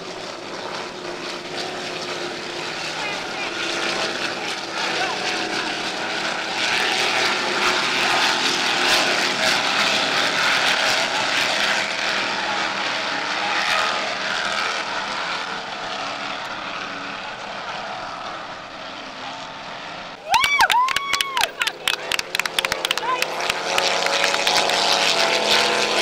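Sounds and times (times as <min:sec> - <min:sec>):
powerboat engines droning: 0:00.0 - 0:26.0.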